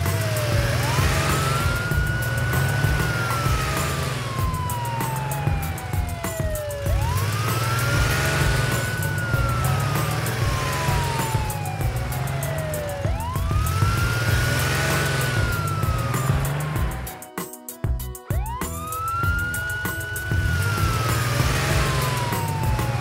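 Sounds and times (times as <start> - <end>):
police siren wailing: 0.0 - 17.4, 18.3 - 23.0
background music with steady beat: 0.0 - 23.0.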